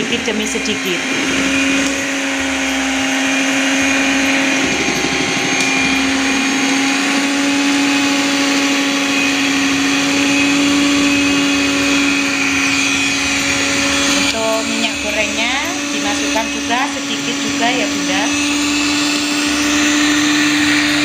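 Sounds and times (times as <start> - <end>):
electric hand mixer whisking: 0.0 - 21.0.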